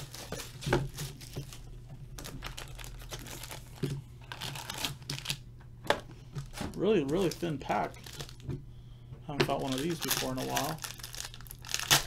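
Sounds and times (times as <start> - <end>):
packaging crinkling and tearing: 0.0 - 5.4, 6.4 - 8.5, 9.4 - 12.0.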